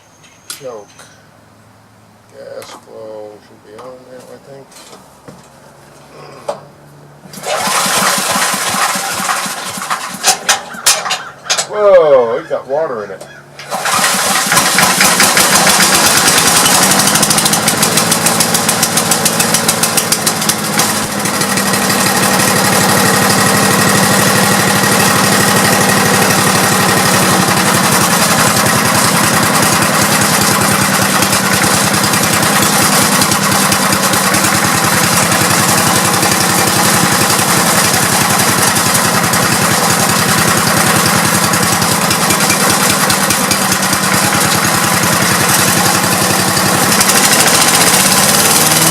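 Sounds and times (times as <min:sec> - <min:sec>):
small engine running unevenly: 0:07.2 - 0:11.3, 0:13.6 - 0:48.9.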